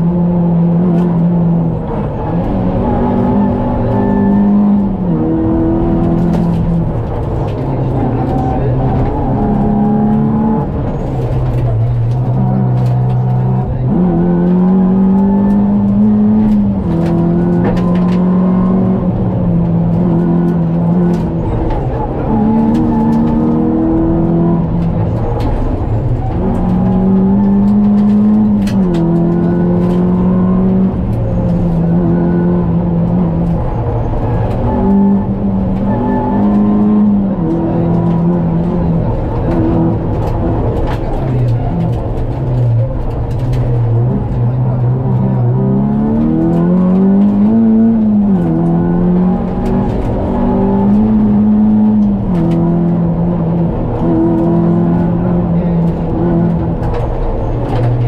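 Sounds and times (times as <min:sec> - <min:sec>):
car engine revving: 0:00.0 - 0:58.0
road noise: 0:00.0 - 0:58.0.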